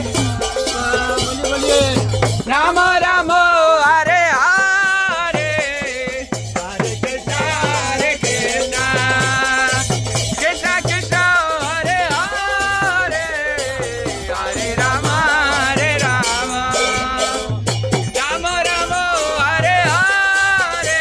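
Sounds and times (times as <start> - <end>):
hand drum beating: 0.0 - 2.9, 4.0 - 21.0
man singing devotional chant: 0.0 - 21.0.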